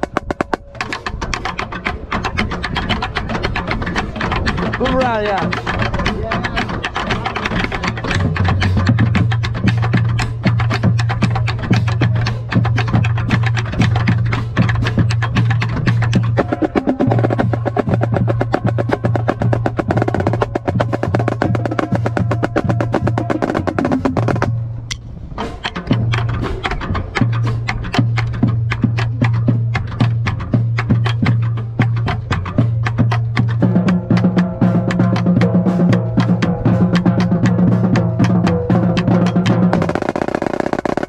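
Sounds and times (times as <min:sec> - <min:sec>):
snare drum rolls: 0:00.0 - 0:41.0.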